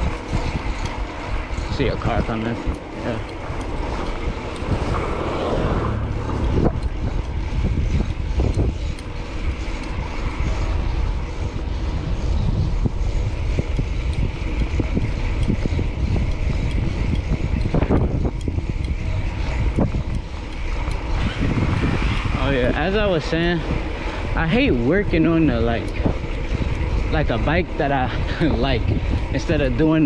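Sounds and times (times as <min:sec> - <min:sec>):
city traffic: 0:00.0 - 0:30.0
wind rushing over microphone: 0:00.0 - 0:30.0.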